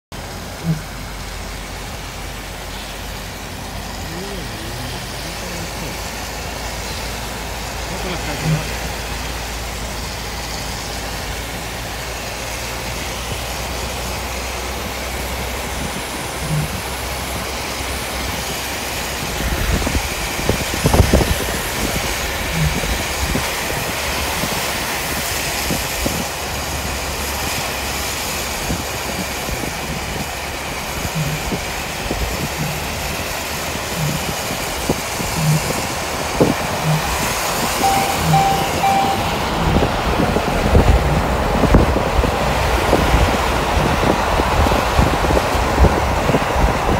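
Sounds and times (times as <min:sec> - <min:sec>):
car road and tyre noise: 0:00.1 - 0:46.9.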